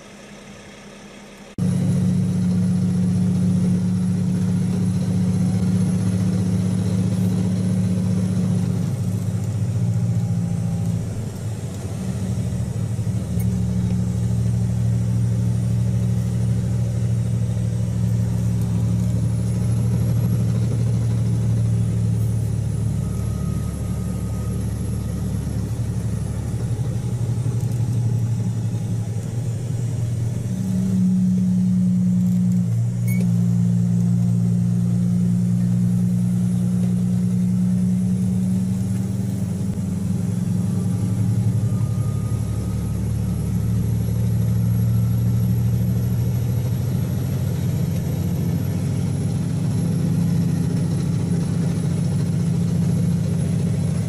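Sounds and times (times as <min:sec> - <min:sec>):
vehicle engine drone: 0:00.0 - 0:54.0
faint high whine: 0:01.6 - 0:54.0.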